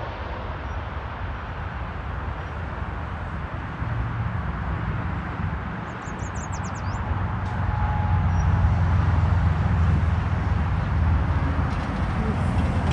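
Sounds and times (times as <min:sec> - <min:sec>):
aircraft engines rumbling: 0:00.0 - 0:12.9.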